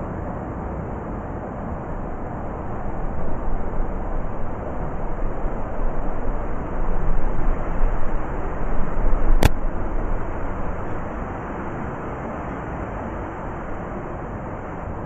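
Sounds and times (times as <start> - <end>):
gusting blizzard wind: 0.0 - 15.0.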